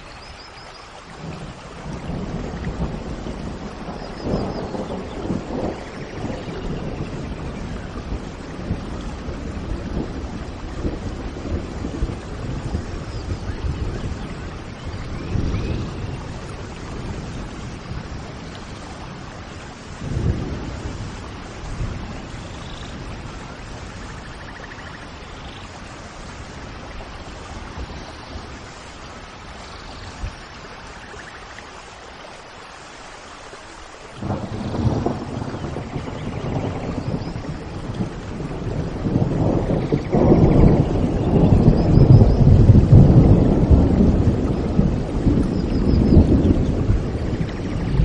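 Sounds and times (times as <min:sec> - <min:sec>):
steady rain: 0:00.0 - 0:48.0
thunder rumbling: 0:01.1 - 0:31.2, 0:34.2 - 0:48.0.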